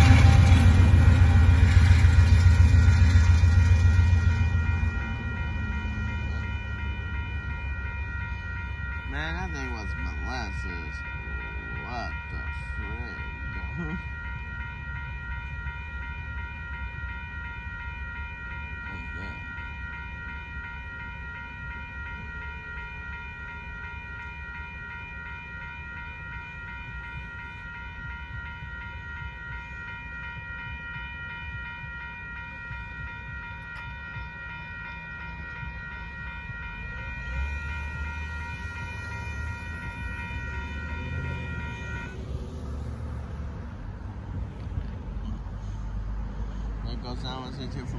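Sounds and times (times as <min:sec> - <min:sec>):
freight train rumbling past: 0:00.0 - 0:47.9
railroad crossing bell ringing: 0:00.0 - 0:47.9.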